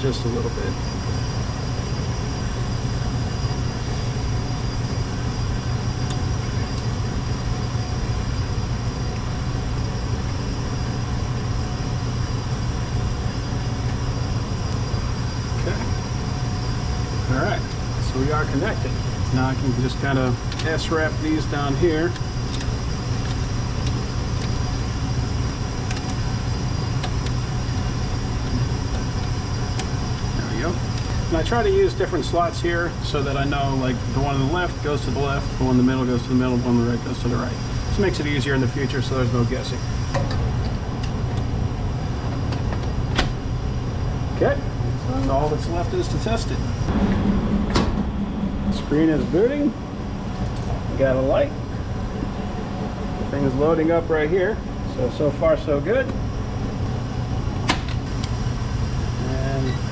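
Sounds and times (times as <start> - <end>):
industrial machinery drone: 0.0 - 59.9.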